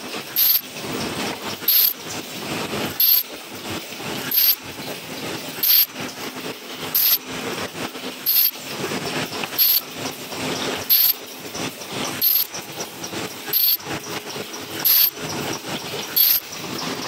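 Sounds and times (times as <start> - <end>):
machine clatter and hum: 0.0 - 17.0.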